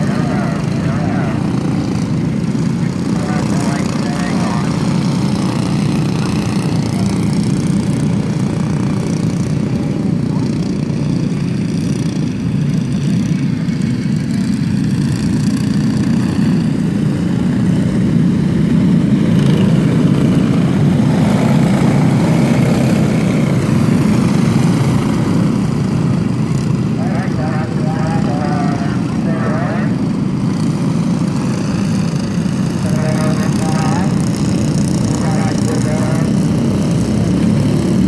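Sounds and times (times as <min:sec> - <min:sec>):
kart engines buzzing: 0:00.0 - 0:38.0.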